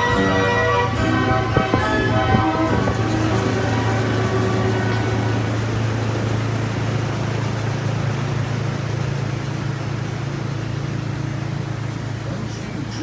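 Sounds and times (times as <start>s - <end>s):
tram humming and rolling: 0.0s - 13.0s.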